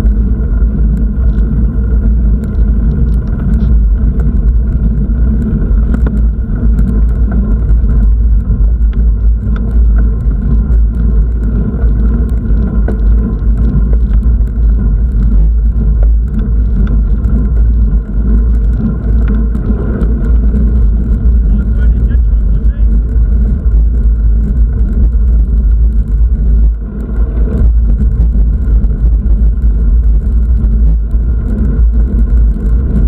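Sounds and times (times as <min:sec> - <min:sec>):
loud low rumble: 0:00.0 - 0:33.0.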